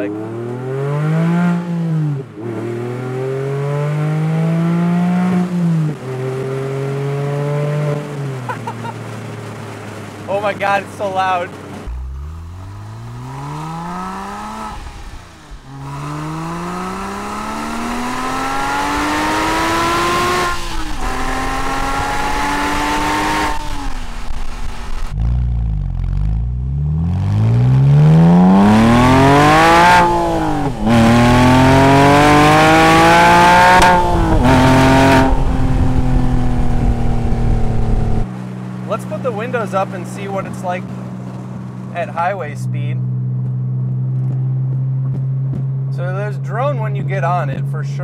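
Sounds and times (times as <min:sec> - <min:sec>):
car engine accelerating hard: 0:00.0 - 0:10.2, 0:11.5 - 0:42.3.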